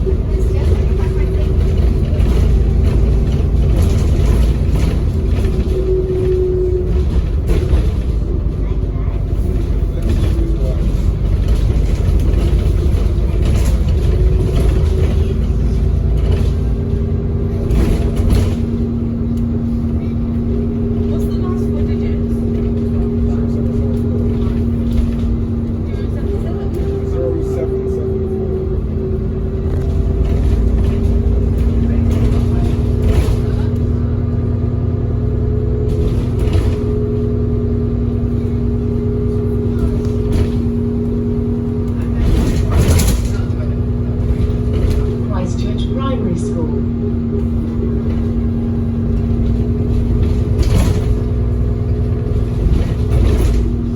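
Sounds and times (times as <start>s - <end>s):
bus engine rumble: 0.0s - 53.9s.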